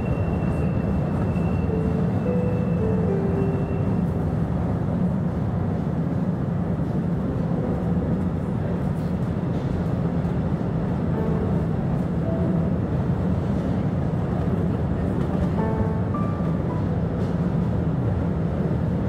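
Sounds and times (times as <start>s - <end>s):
electric train rumbling on track: 0.0s - 19.0s.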